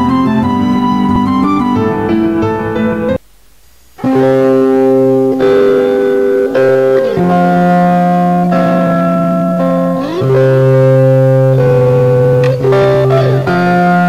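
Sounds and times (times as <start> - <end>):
song with guitar: 0.0 - 3.2, 4.0 - 14.0.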